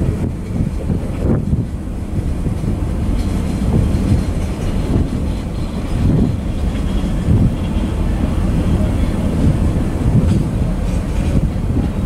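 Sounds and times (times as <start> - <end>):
steel wheels rumbling on rails: 0.0 - 12.0
wheels clacking over rail joints: 0.0 - 12.0.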